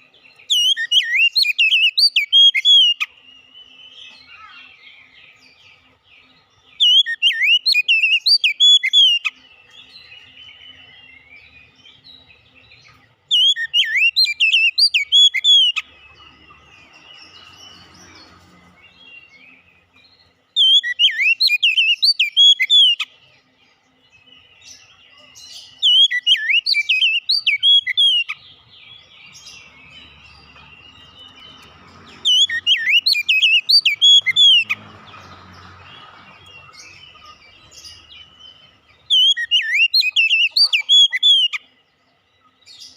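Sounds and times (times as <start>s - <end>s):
faint bird chirping: 0.0s - 42.9s
magpie-robin whistled song: 0.0s - 42.9s.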